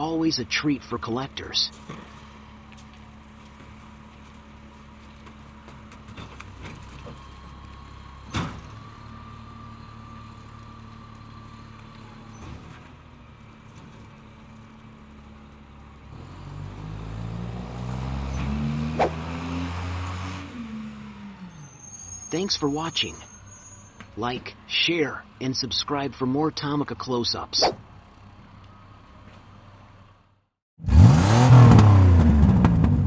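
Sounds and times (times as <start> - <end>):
truck engine idling and revving: 0.0 - 33.0.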